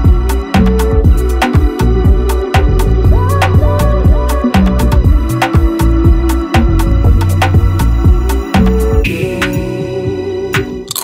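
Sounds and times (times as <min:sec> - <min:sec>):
continuous bass line: 0:00.0 - 0:09.1
steady drum beat: 0:00.0 - 0:09.6.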